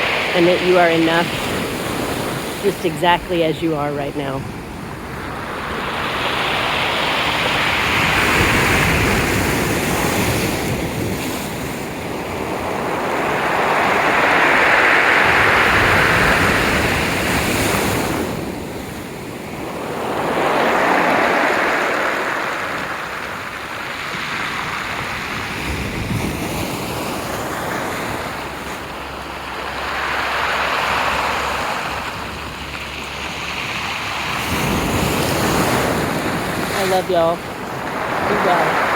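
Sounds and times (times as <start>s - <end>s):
waves washing ashore: 0.0s - 38.9s
wind on microphone: 0.0s - 38.9s.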